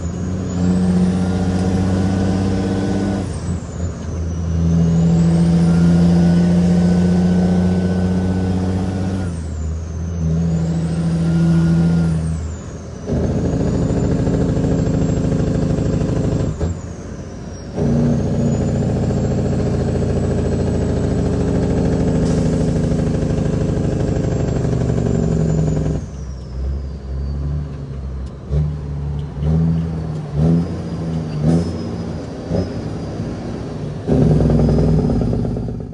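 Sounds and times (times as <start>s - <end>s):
diesel truck engine shifting gears: 0.0s - 35.9s.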